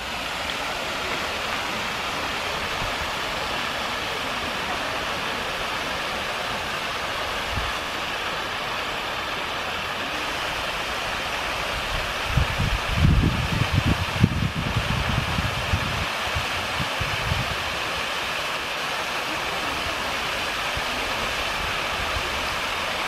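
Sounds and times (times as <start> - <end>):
waterfall pouring into pond: 0.0 - 23.0.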